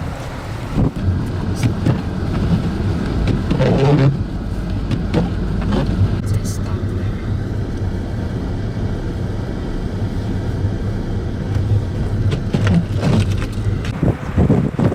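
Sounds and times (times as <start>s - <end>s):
blizzard wind: 0.0s - 14.9s
vehicle engine humming: 0.0s - 14.9s
wind gusts buffeting microphone: 0.0s - 14.9s.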